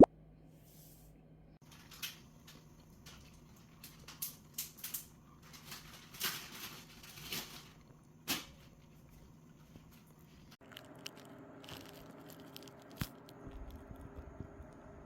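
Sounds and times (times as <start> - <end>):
light clicks and rustles: 1.6 - 14.8.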